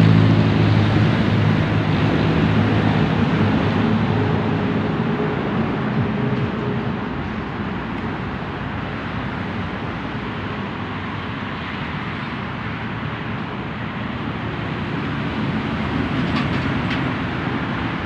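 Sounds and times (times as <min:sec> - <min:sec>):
large truck passing: 0:00.0 - 0:18.0
road traffic passing: 0:00.0 - 0:18.0.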